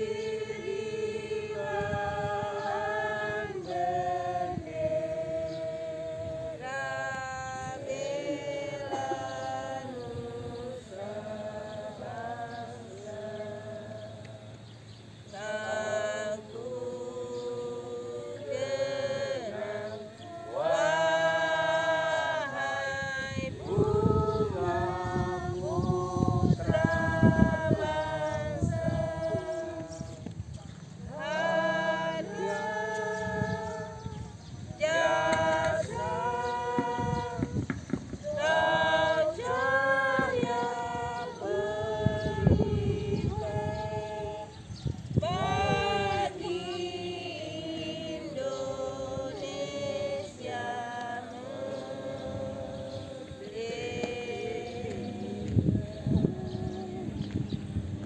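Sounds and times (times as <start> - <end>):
group singing in unison: 0.0 - 58.0.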